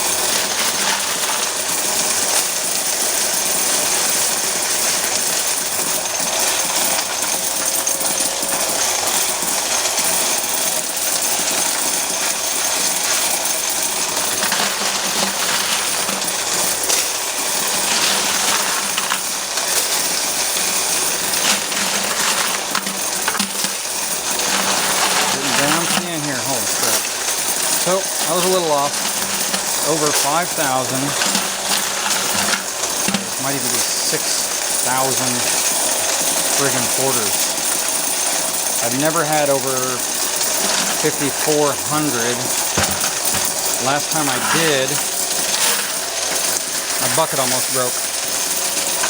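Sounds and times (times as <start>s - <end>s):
coin counter clattering: 0.0s - 49.0s.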